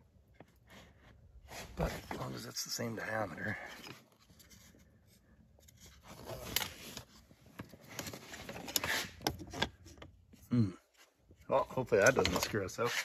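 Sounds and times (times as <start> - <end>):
light scraping of plastic parts: 0.2 - 13.0.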